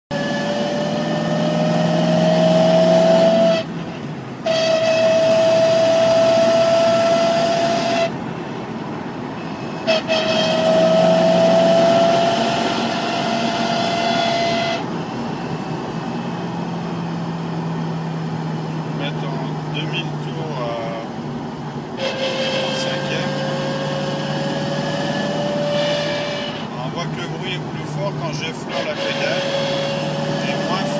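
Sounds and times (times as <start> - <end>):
car running noise: 0.1 - 30.9
drivetrain whine: 0.1 - 30.9.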